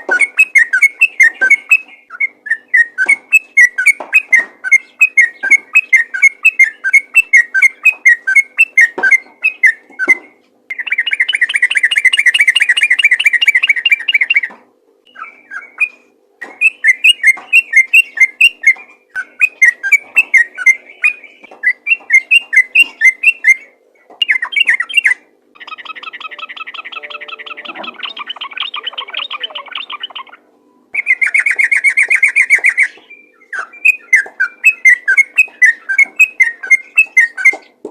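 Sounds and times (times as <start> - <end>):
bird rapid trill: 0.0 - 14.5, 15.1 - 37.7
bird singing whistled notes: 0.0 - 14.5, 15.1 - 37.7.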